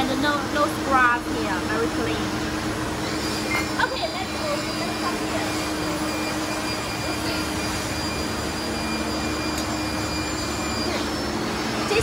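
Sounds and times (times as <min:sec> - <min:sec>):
high steady tones: 0:00.0 - 0:12.0
machinery rushing noise: 0:00.0 - 0:12.0.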